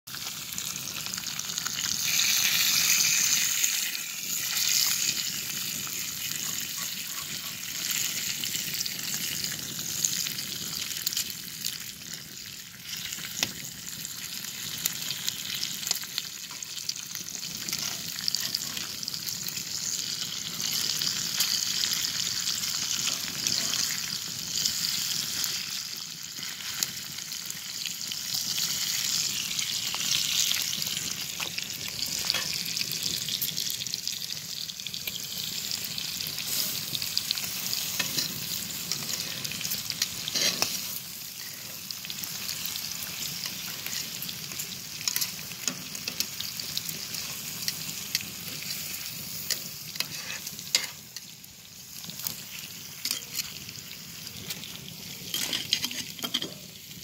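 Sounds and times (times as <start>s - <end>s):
bacon sizzling in a skillet: 0.1s - 57.0s.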